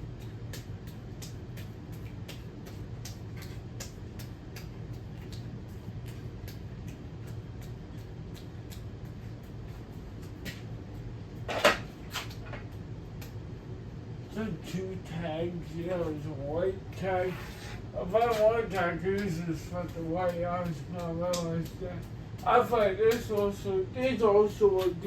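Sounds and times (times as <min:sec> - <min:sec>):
ceiling fan ticking and humming: 0:00.0 - 0:25.0.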